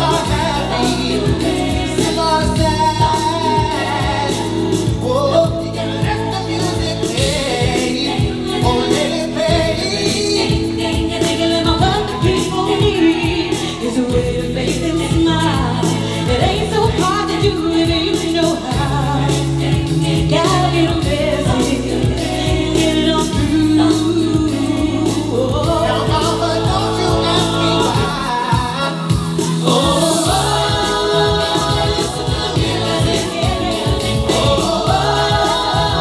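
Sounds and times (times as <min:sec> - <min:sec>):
group singing in harmony: 0:00.0 - 0:36.0
steady drum beat: 0:00.0 - 0:36.0
sustained bass notes: 0:00.0 - 0:36.0.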